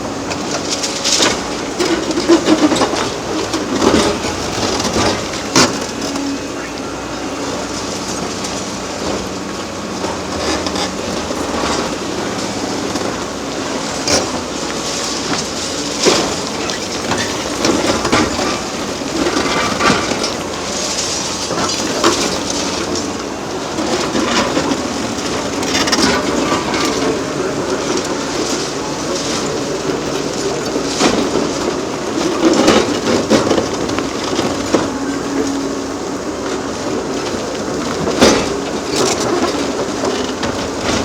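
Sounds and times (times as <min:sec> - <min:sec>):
diesel engine under load: 0:00.0 - 0:41.0.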